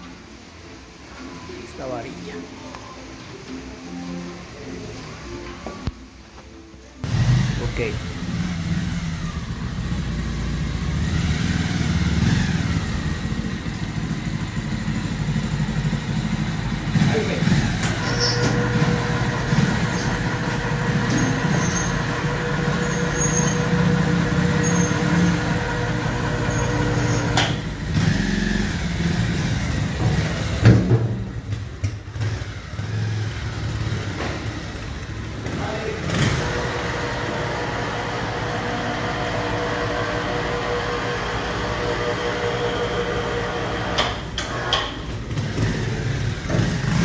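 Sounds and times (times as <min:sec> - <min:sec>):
motorcycle engine pulling away: 0:07.0 - 0:47.0.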